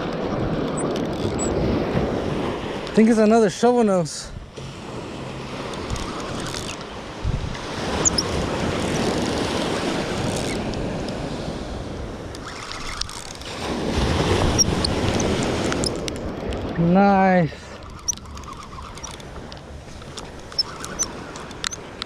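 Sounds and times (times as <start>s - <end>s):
wind buffeting microphone: 0.0s - 3.6s, 4.2s - 22.0s
ocean surf washing onto beach: 0.0s - 17.9s.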